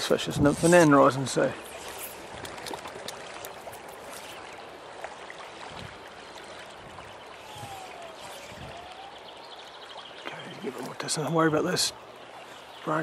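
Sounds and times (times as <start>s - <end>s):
stream running over stones: 0.0s - 13.0s.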